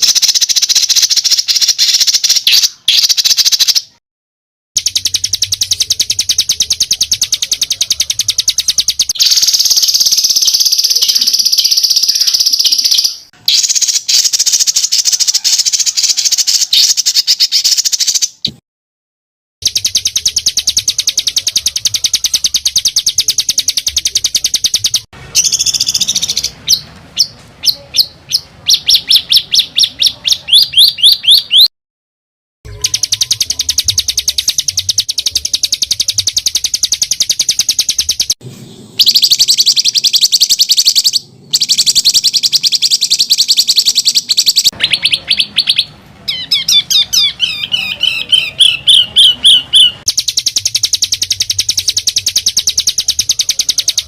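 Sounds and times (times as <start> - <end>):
songbird rattling trills: 0.0 - 3.9, 4.8 - 18.4, 19.6 - 31.6, 32.7 - 38.4, 39.0 - 54.0.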